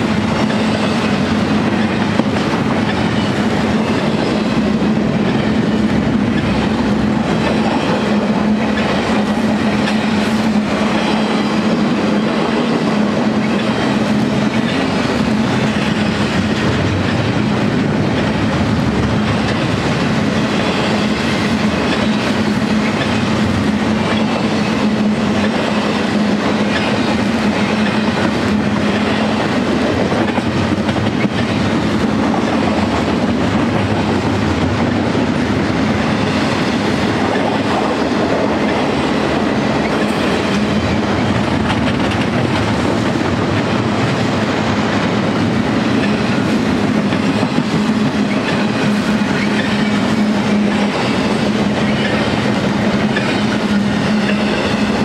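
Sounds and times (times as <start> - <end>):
steel wheels on rails: 0.0 - 55.0.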